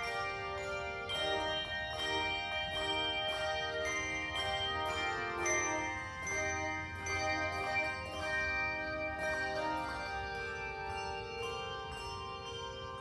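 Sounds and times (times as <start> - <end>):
handbell choir ringing chords: 0.0 - 13.0.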